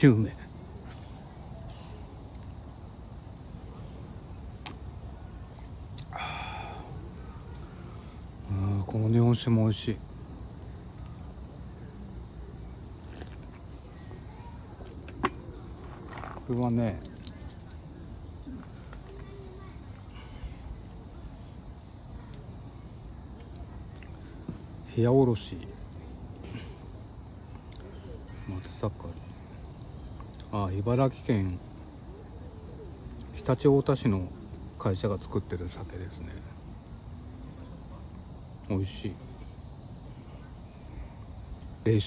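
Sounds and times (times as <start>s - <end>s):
crickets trilling: 0.0s - 42.0s.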